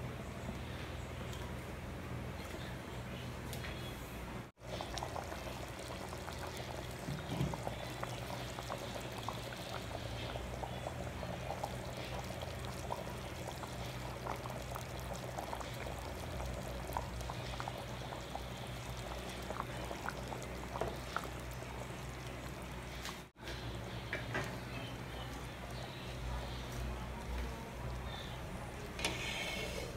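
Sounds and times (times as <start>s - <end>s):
low steady hum: 0.0s - 29.9s
stew bubbling in a pot: 4.6s - 29.9s.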